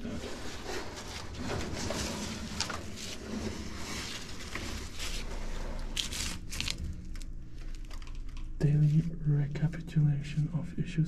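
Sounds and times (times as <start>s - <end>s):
rustling and scraping of papers: 0.0s - 9.2s.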